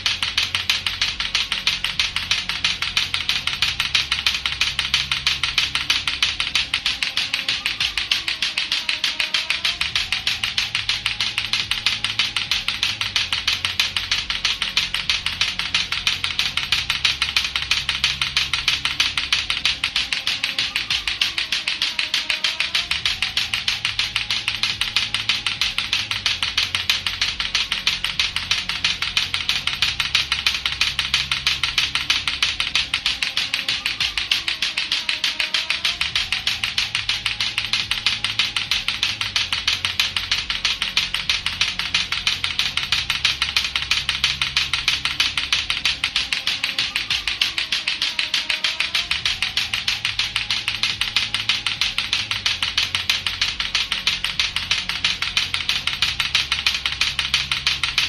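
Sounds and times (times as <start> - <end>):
music with low bass: 0.0 - 58.0
plastic clacker balls clacking: 0.0 - 58.0.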